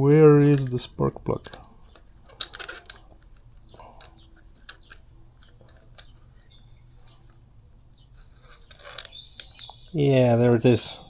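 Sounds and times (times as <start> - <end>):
wrench scraping metal: 0.3 - 9.9.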